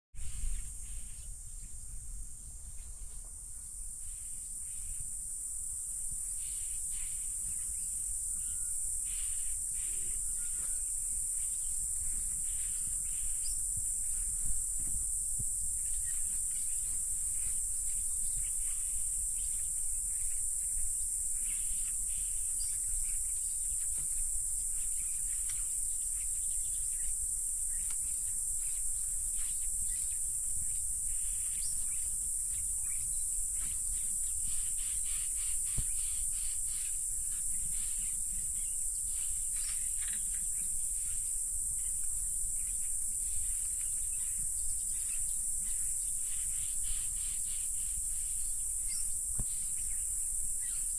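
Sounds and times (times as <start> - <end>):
high-pitched insect chorus: 0.2 - 50.9.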